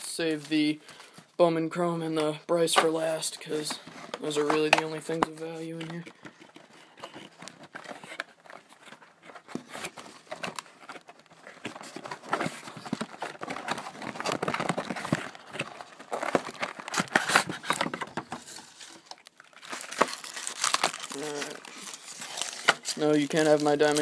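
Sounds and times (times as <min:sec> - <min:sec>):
packaging rustling: 0:02.7 - 0:24.0.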